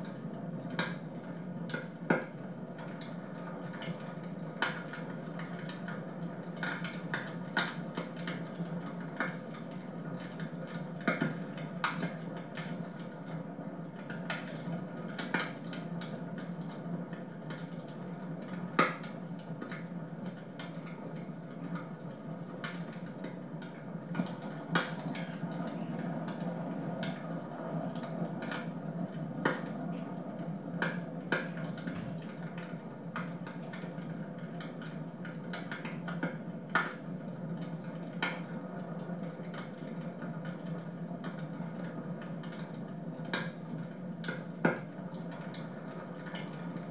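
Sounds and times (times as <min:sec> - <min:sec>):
fire crackling and popping: 0:00.1 - 0:46.9.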